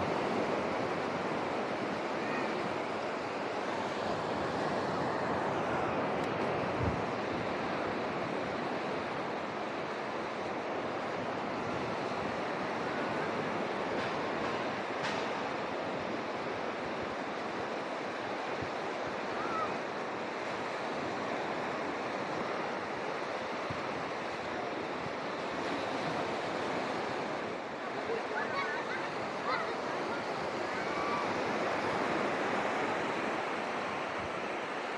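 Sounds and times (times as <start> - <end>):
ocean surf breaking: 0.0 - 34.9.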